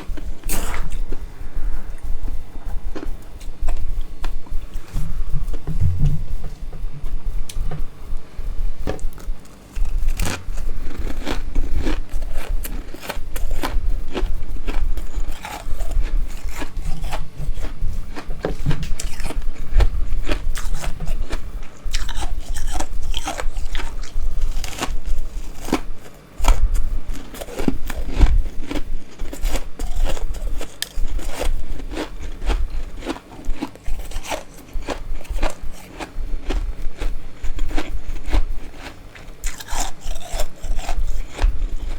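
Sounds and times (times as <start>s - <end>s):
chewing crunchy frost: 0.0s - 6.2s, 7.1s - 41.9s.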